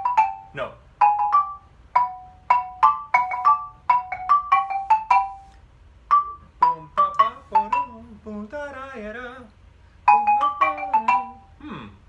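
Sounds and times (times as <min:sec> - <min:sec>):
xylophone played with mallets: 0:00.0 - 0:08.3, 0:10.0 - 0:11.6.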